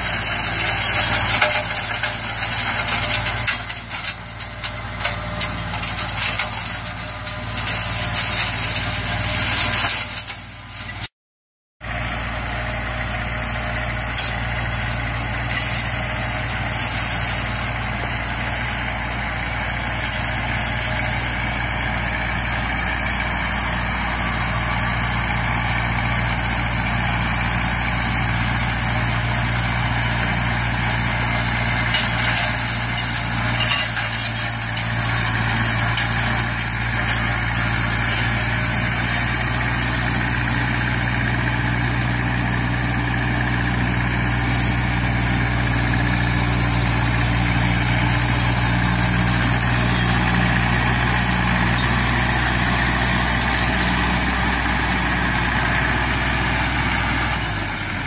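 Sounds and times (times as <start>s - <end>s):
flail mower shredding grass: 0.0s - 11.1s, 11.8s - 58.0s
tractor engine droning: 0.0s - 11.1s, 11.8s - 58.0s.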